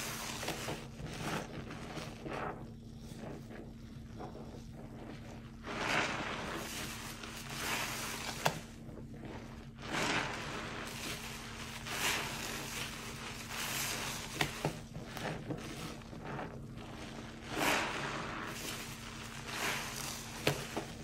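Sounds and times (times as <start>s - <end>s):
sponge squelching in suds: 0.0s - 21.0s.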